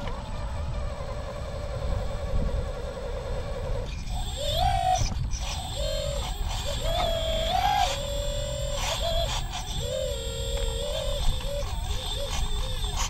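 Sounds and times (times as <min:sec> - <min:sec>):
electric motor and gear whine: 0:00.0 - 0:13.0.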